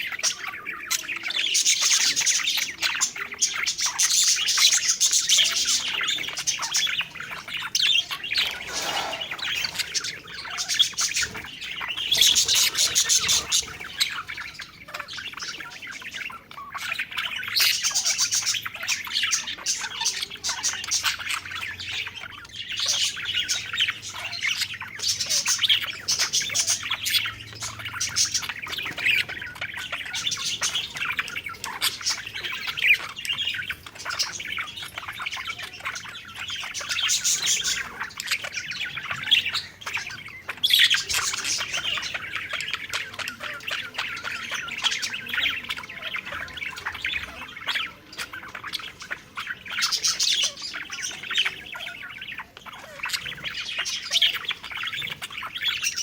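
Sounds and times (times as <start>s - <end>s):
parakeets chattering and chirping: 0.0s - 56.0s.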